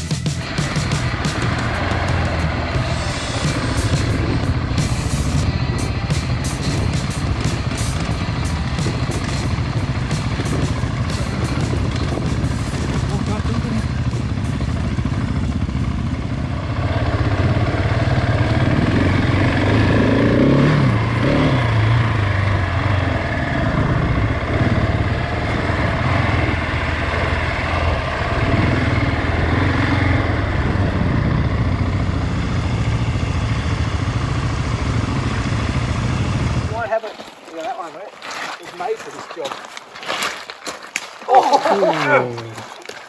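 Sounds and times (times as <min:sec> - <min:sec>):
motorcycle engine running: 0:00.0 - 0:37.3.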